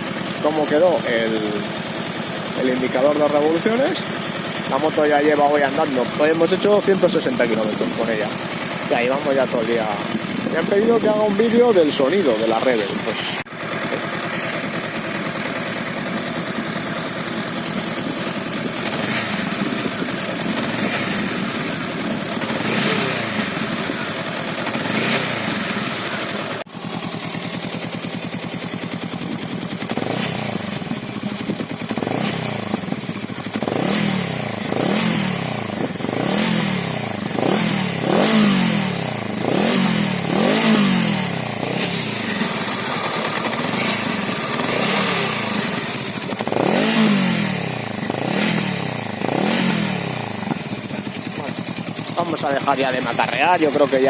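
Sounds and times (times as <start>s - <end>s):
motorcycle engine idling: 0.0s - 54.0s
motorcycle engine revving: 0.0s - 54.0s.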